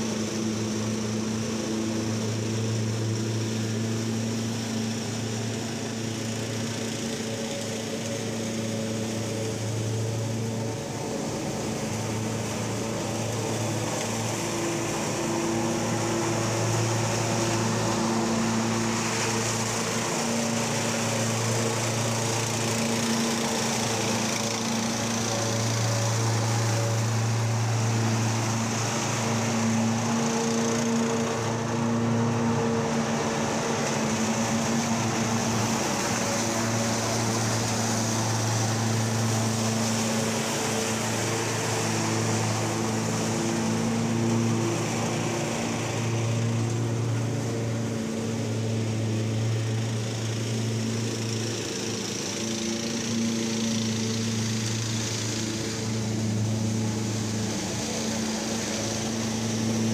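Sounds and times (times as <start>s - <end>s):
engine drone: 0.0s - 59.9s
rushing hiss of air and leaves: 0.0s - 59.9s.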